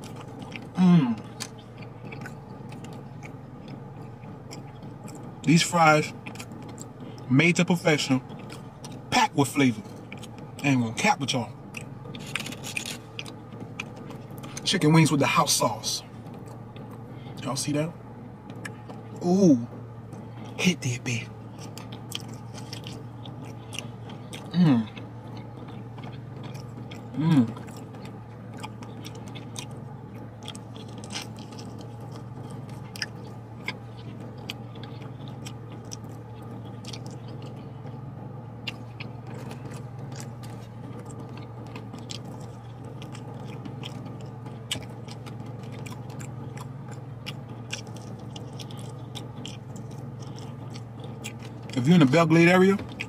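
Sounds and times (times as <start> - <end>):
low car cabin hum: 0.0 - 53.0
wet chewing: 0.0 - 53.0.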